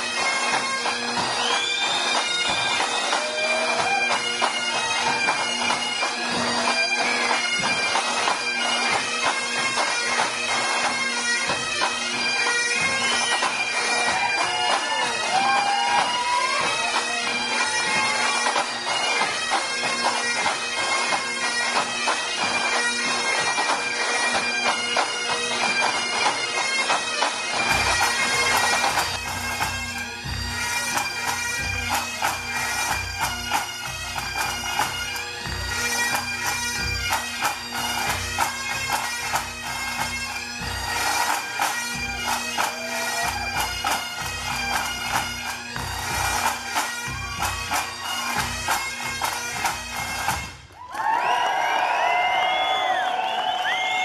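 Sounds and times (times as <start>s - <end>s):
bagpipe band playing: 0.0s - 50.9s.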